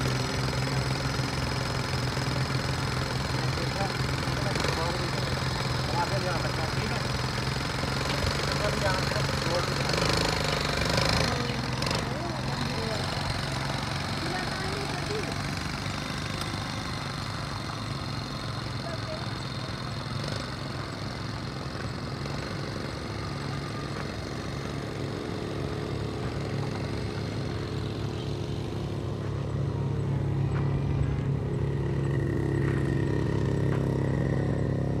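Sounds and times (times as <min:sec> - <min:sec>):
quad bike engine running: 0:00.0 - 0:35.0.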